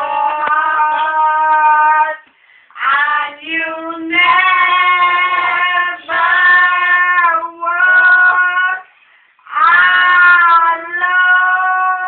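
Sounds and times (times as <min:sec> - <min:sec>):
women singing: 0:00.0 - 0:12.0.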